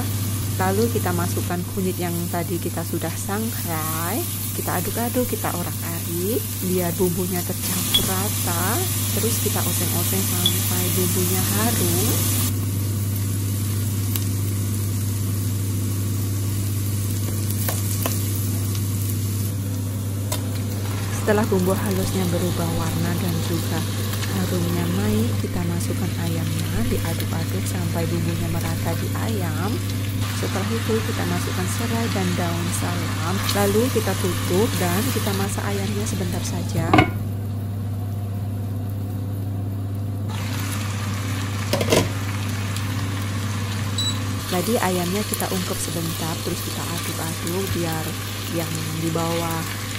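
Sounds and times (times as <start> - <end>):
spice paste sizzling in oil: 0.0 - 36.6, 40.3 - 49.9
steady low hum: 0.0 - 40.3.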